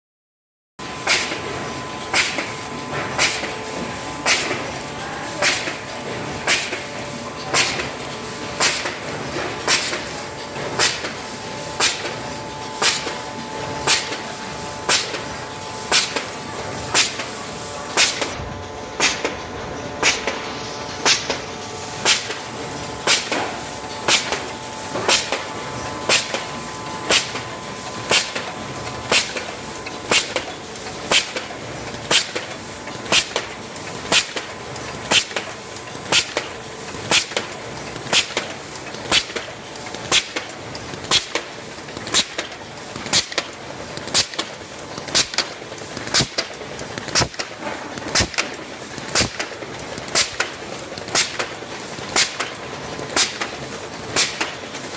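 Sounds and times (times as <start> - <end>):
folding machine running: 0.8 - 54.9
machine clacking: 1.0 - 4.8, 5.4 - 54.9.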